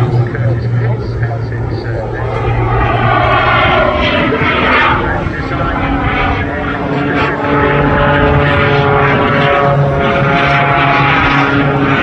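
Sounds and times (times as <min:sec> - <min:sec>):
propeller plane engine overhead: 0:00.0 - 0:12.0.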